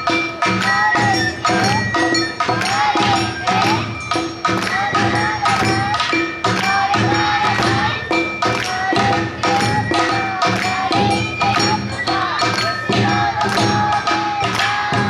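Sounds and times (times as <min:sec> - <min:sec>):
bamboo flute melody: 0:00.0 - 0:15.0
drums: 0:00.0 - 0:15.0.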